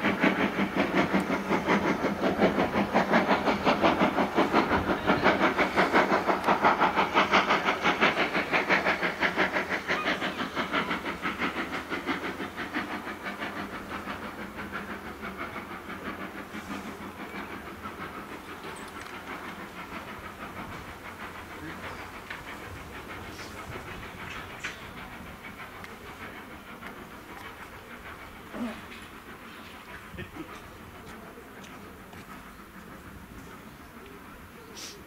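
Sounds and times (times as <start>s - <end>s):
steam locomotive chuffing: 0.0s - 35.0s.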